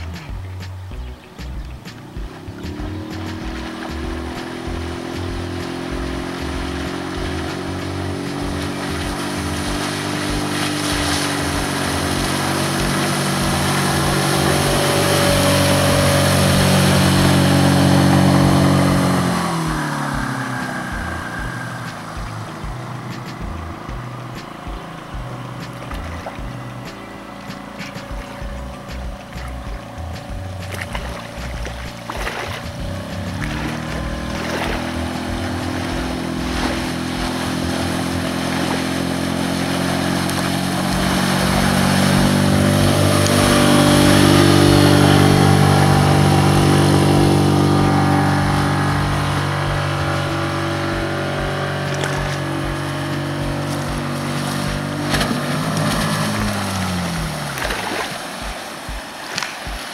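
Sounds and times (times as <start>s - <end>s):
outboard motor passing: 0.0s - 59.9s.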